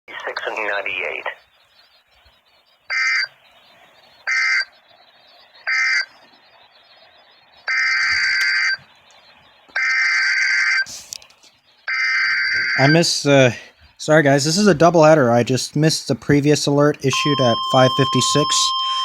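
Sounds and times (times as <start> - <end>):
buzzy data bursts: 0.5 - 8.8, 9.7 - 11.1, 11.8 - 19.0.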